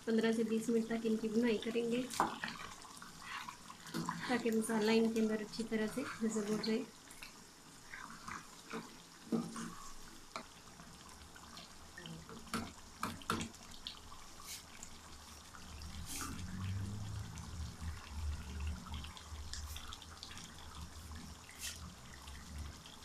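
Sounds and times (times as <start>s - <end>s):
food bubbling in oil: 0.0s - 23.0s
hot oil popping and spitting: 1.8s - 23.0s.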